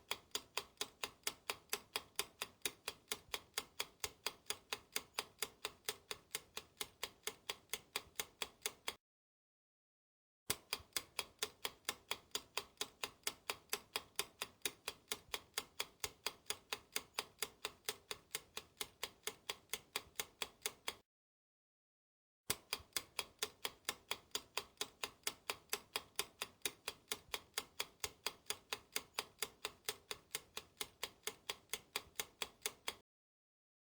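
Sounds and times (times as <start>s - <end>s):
clock ticking: 0.0s - 9.0s, 10.5s - 21.0s, 22.5s - 33.0s.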